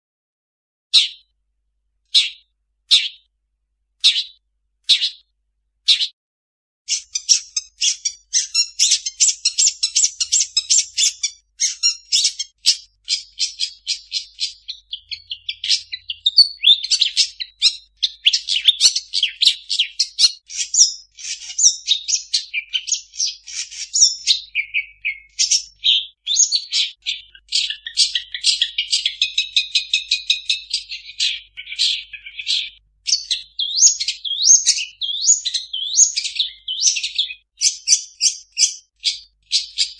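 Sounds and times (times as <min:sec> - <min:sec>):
fast bird trill: 0:00.9 - 0:01.2, 0:02.1 - 0:03.2, 0:04.0 - 0:05.2, 0:05.9 - 0:06.2, 0:06.9 - 0:39.9
bird singing high chattering notes: 0:01.0 - 0:01.3, 0:02.1 - 0:03.3, 0:04.0 - 0:05.2, 0:05.9 - 0:06.1, 0:06.9 - 0:39.9.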